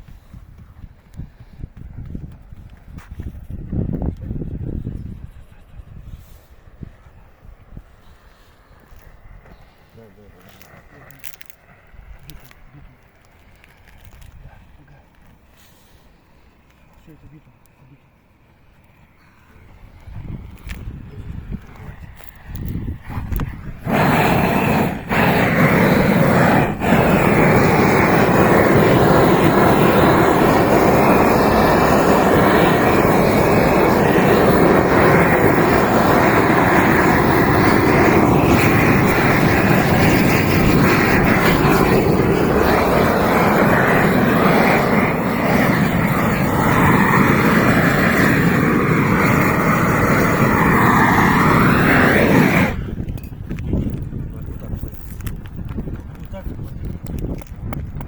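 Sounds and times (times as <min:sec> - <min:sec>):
roofing torch flame burning: 0:06.2 - 0:58.0.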